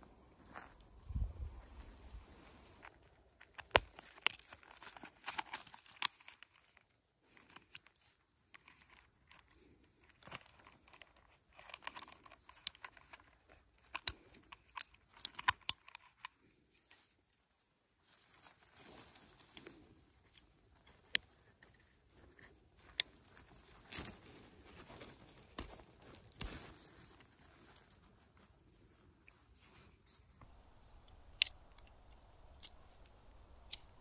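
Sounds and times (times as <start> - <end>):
clicks and snaps of twigs: 0.2 - 17.4, 18.1 - 34.0.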